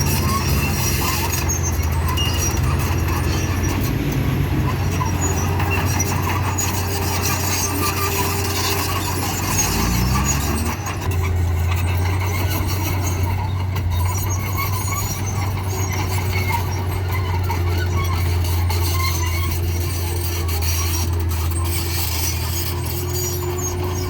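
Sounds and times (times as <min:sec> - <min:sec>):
heavy machinery running: 0:00.0 - 0:24.0.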